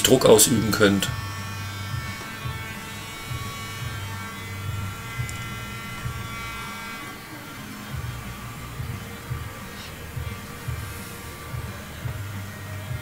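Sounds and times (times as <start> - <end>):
heat gun fan whine: 0.0 - 13.0.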